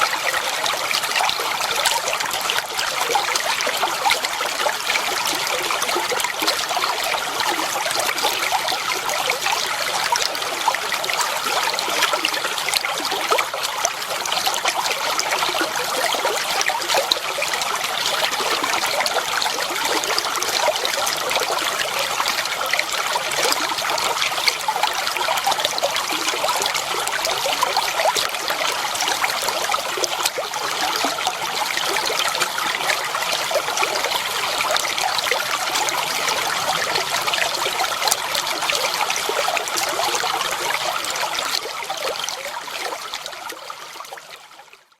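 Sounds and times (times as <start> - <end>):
water trickling over stones: 0.0 - 44.9.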